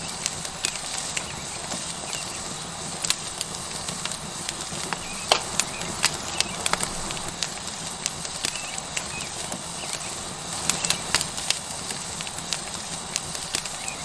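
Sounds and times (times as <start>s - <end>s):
fire pops and crackles: 0.0s - 14.0s
steak sizzling: 0.0s - 14.0s.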